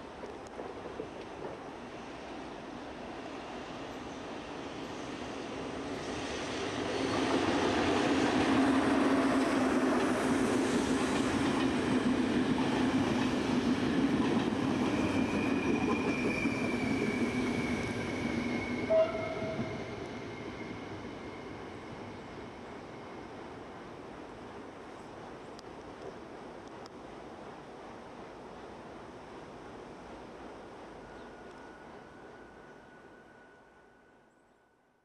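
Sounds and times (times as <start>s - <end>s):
train passing on rails: 0.0s - 34.5s.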